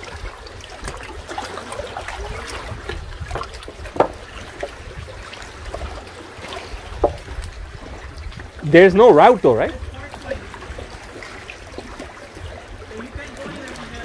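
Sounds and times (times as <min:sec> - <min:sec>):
small waves lapping on rocks: 0:00.0 - 0:14.0.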